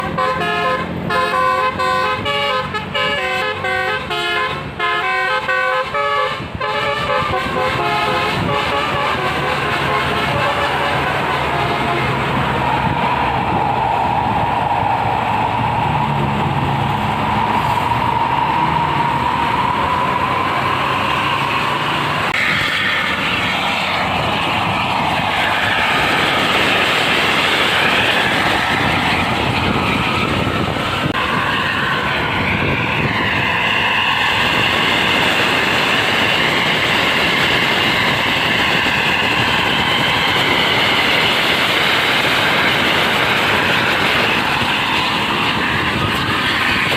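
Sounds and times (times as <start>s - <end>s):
bus engine and road noise: 0.0s - 46.9s.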